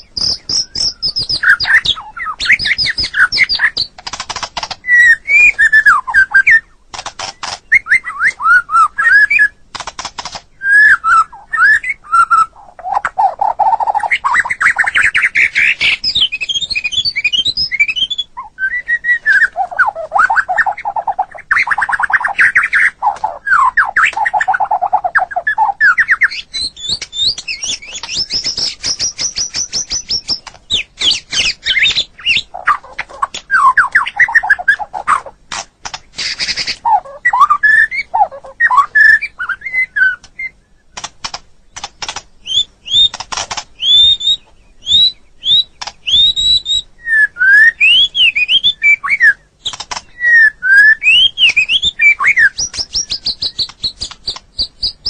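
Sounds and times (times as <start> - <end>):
bird singing whistles and trills: 0.0 - 9.6, 10.5 - 35.4, 36.2 - 41.1, 41.8 - 55.0.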